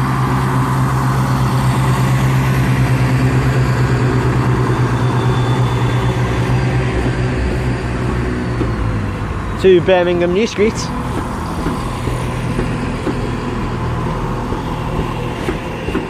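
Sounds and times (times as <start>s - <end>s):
diesel train engines idling: 0.0s - 16.0s.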